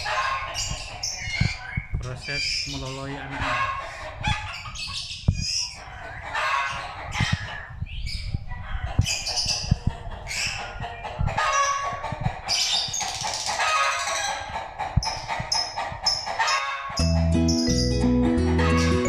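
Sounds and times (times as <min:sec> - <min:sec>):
nestlings begging calls: 0:00.0 - 0:14.4, 0:15.0 - 0:18.0.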